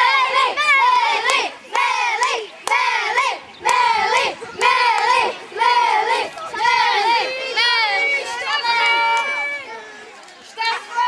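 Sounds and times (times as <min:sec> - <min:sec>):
children shouting and cheering: 0:00.0 - 0:11.0.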